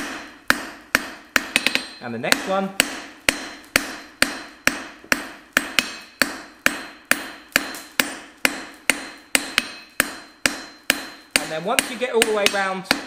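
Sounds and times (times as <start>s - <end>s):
hammer striking metal on anvil: 0.0s - 13.0s.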